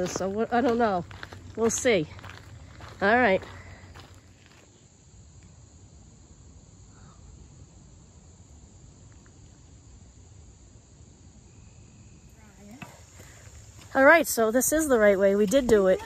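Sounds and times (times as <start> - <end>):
insects hissing: 0.0 - 16.0.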